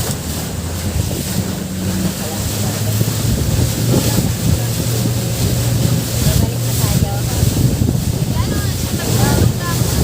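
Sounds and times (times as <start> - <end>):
boat engine humming: 0.0 - 10.0
water rushing past hull: 0.0 - 10.0
wind buffeting microphone: 0.0 - 10.0.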